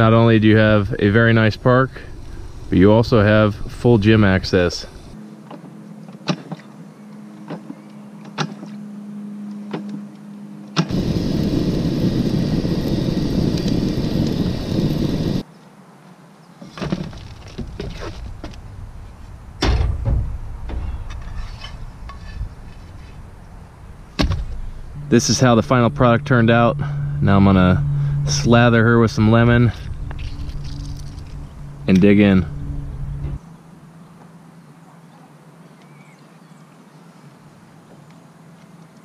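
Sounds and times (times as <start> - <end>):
low hum: 0.0 - 15.4, 18.3 - 34.8.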